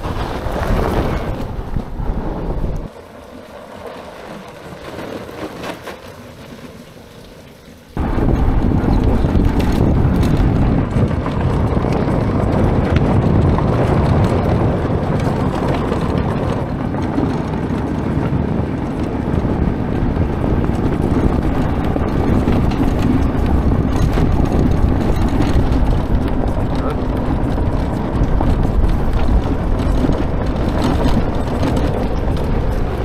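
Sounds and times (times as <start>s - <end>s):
wind on microphone: 0.0s - 5.7s, 8.0s - 33.0s.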